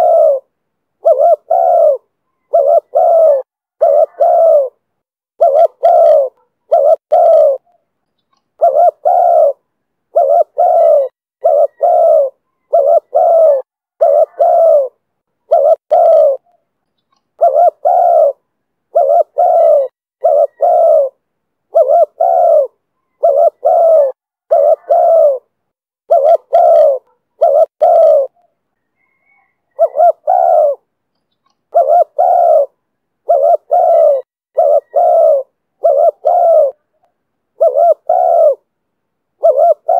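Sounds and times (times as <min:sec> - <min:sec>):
dove cooing: 0:00.0 - 0:04.8, 0:05.4 - 0:07.8, 0:08.6 - 0:16.6, 0:17.4 - 0:30.9, 0:31.7 - 0:38.7, 0:39.4 - 0:39.9.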